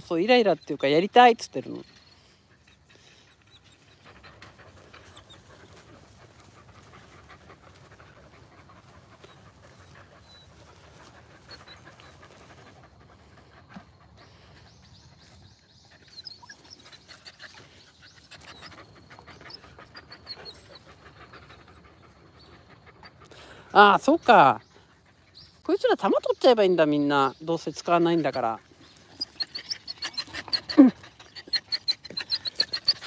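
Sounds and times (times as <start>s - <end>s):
dogs panting: 0.0s - 33.0s.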